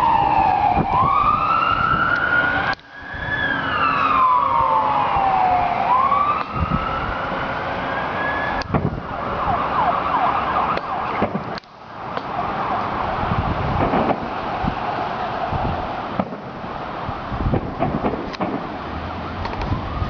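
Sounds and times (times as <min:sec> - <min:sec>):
wailing siren: 0:00.0 - 0:20.0.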